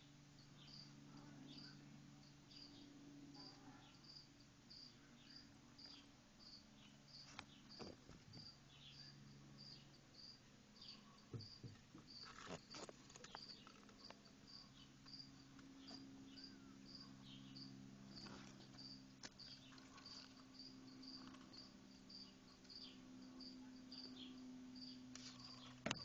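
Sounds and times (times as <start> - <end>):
low steady hum: 0.0 - 26.0
cricket chirping: 0.4 - 26.0.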